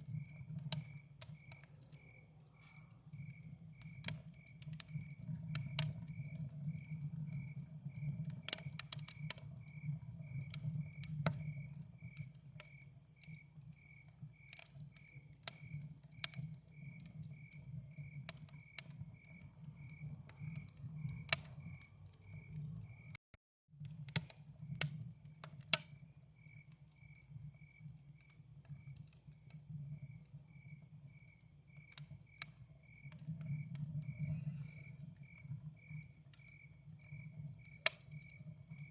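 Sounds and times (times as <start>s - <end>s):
campfire crackling and popping: 0.0s - 23.2s, 23.8s - 38.9s
cricket chirping: 0.0s - 23.2s, 25.8s - 38.9s.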